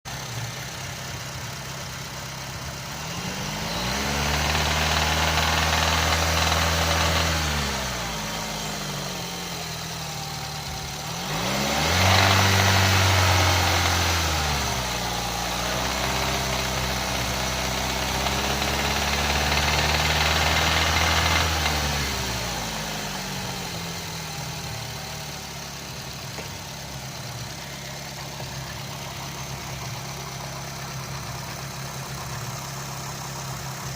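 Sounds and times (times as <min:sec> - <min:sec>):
car engine idling and revving: 0:00.0 - 0:33.9
engine noise on throttle: 0:00.1 - 0:33.9.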